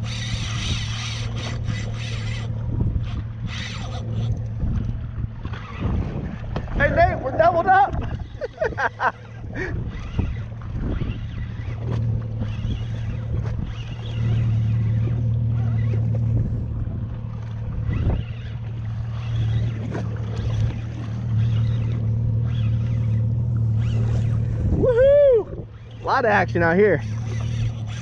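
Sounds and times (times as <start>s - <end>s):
electric trolling motor hum: 0.0s - 28.0s.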